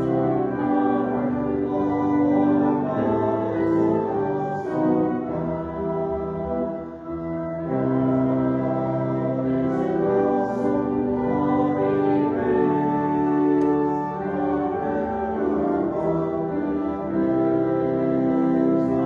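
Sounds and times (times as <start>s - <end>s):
slow hymn with held chords: 0.0s - 19.0s.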